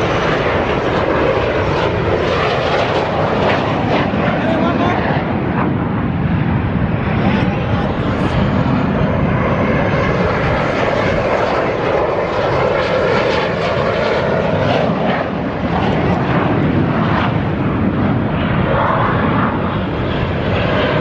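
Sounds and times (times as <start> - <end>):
aircraft engine flying past: 0.0 - 21.0.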